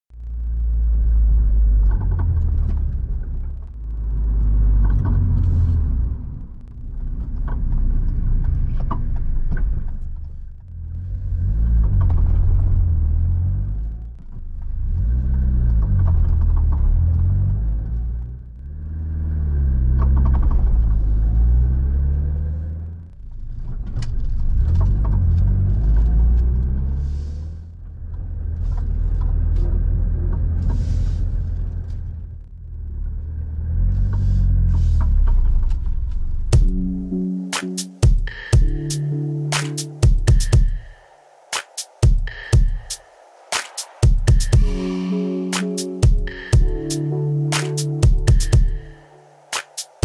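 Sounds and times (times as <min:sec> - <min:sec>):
engine and road rumble: 0:00.0 - 0:50.0.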